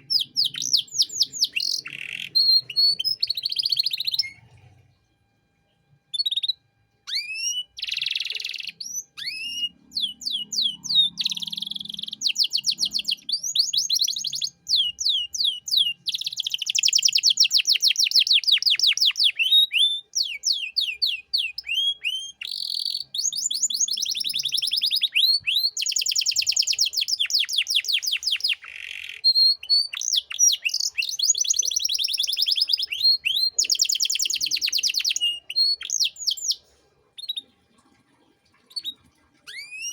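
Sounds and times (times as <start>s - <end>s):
canary singing: 0.0s - 4.6s, 6.1s - 37.6s, 38.6s - 39.9s.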